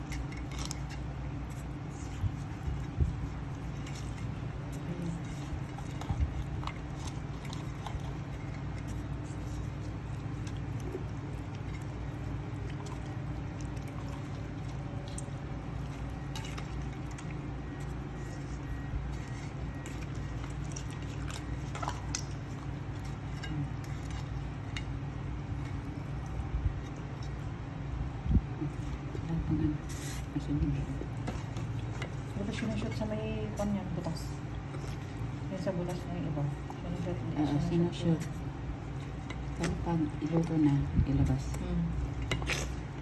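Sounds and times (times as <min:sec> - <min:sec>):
handling raw chicken: 0:00.0 - 0:43.0
steady low hum: 0:00.0 - 0:43.0.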